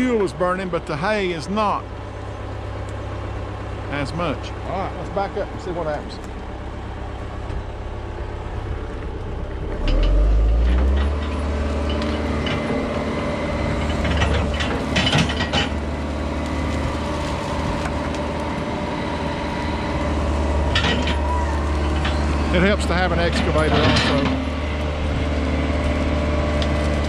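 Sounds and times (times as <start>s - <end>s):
excavator diesel engine revving: 0.0s - 27.0s.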